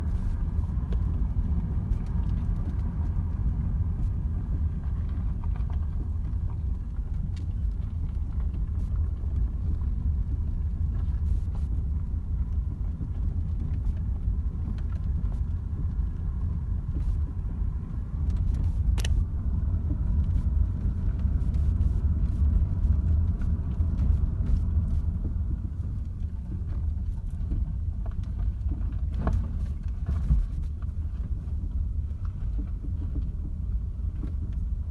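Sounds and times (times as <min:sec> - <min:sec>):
car driving rumble: 0:00.0 - 0:34.9.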